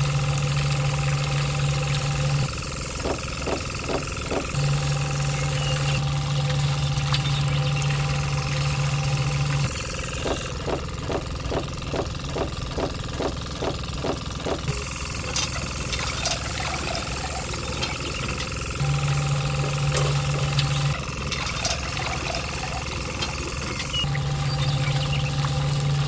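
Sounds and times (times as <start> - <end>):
small motor humming and chugging: 0.0 - 26.0.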